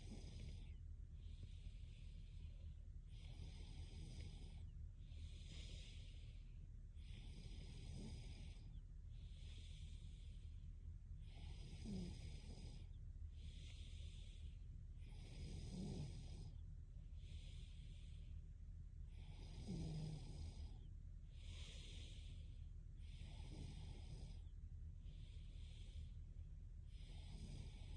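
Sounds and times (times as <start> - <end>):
soft low snore: 0.0 - 18.4, 19.0 - 27.9
woman breathing in sleep: 0.0 - 27.9.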